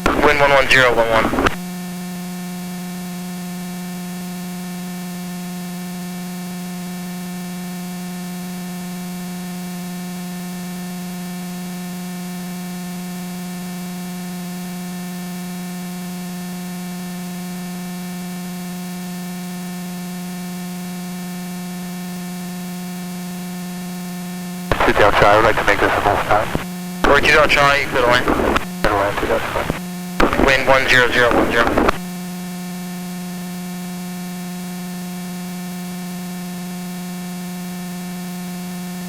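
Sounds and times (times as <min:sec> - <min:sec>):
electrical hum with hiss: 0:00.0 - 0:12.2, 0:19.0 - 0:39.0.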